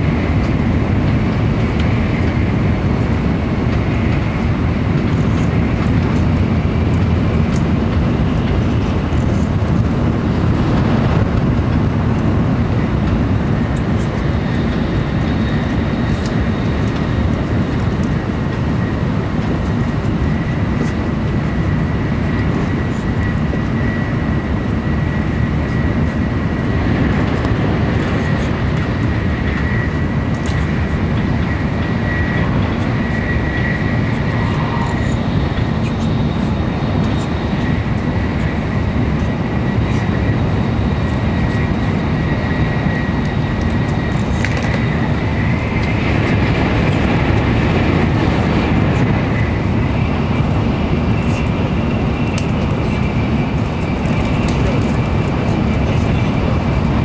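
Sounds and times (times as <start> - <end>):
train running noise inside cabin: 0.0 - 57.0.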